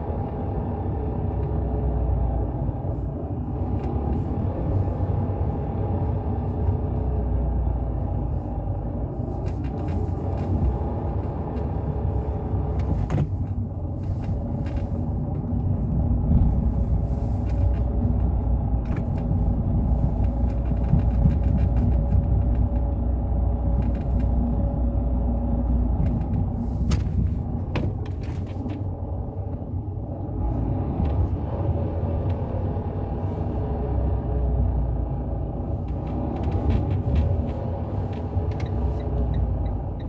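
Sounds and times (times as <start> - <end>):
engine running: 0.0 - 40.0
road rumble: 0.0 - 40.0.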